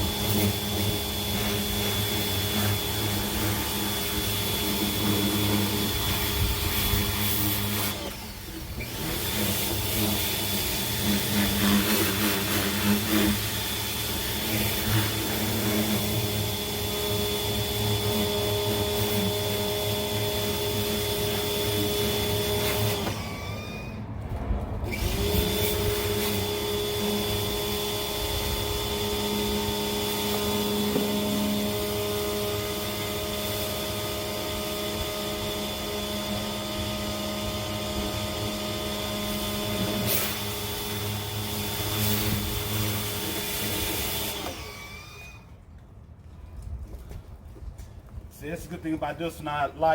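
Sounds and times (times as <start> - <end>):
pressure washer running: 0.0 - 24.0, 24.8 - 45.4.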